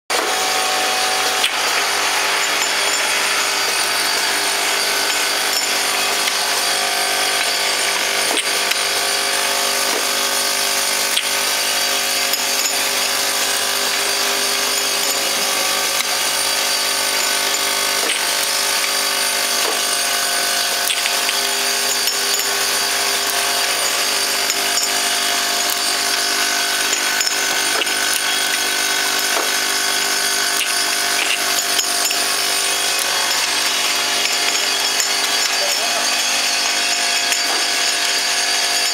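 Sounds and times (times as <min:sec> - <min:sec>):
constant machine tones: 0:00.1 - 0:38.9
machine motors whirring: 0:00.1 - 0:38.9
sharp clicks of bottles: 0:00.1 - 0:38.9.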